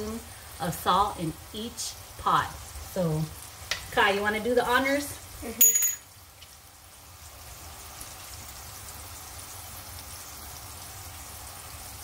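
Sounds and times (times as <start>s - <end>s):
soup bubbling on gas burner: 0.0s - 5.4s, 6.0s - 12.0s.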